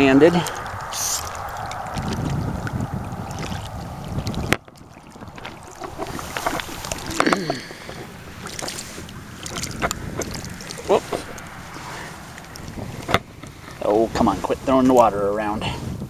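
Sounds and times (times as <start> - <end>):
small water splashes: 0.0 - 15.6
wind rumbling on microphone: 0.0 - 16.0.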